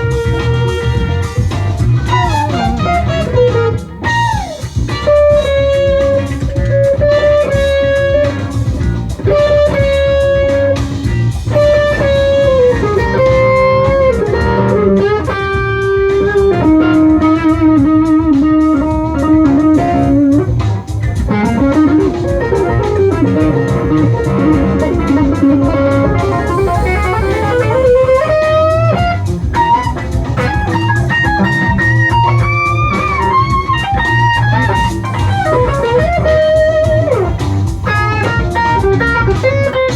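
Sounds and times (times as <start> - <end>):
bass and drums: 0.0 - 39.9
electric guitar lead: 0.0 - 39.9.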